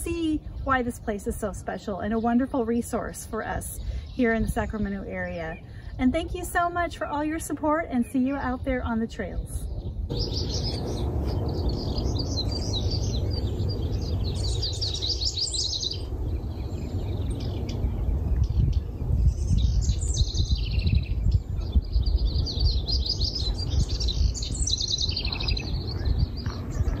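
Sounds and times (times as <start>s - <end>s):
songbirds trilling: 0.0s - 27.0s
steady low rumble: 3.8s - 27.0s.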